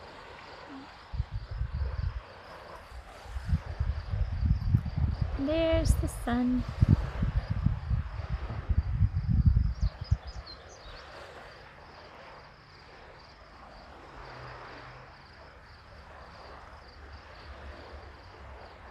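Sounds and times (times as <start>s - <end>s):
high insect trill: 0.0s - 18.9s
open-air wind noise: 0.0s - 18.9s
wind buffeting microphone: 0.0s - 18.9s.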